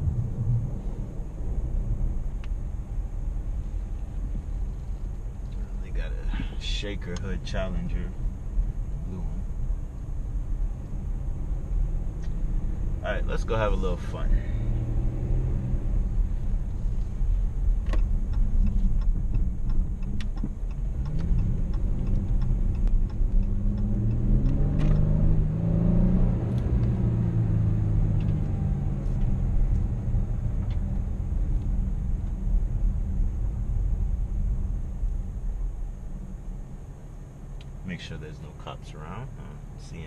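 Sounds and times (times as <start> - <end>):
car engine accelerating: 0.0 - 40.0
road and tyre rumble: 0.0 - 40.0.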